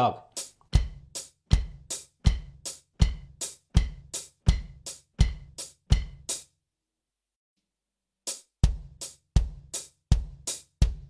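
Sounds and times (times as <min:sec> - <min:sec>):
drum kit rock groove: 0:00.0 - 0:06.4, 0:08.3 - 0:11.0.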